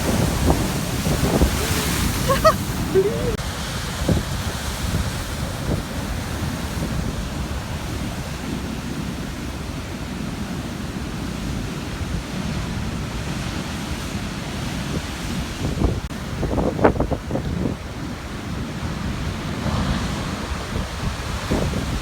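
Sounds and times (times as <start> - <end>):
wind buffeting microphone: 0.0 - 13.8, 14.7 - 22.0
waves breaking on rocky shore: 0.0 - 22.0.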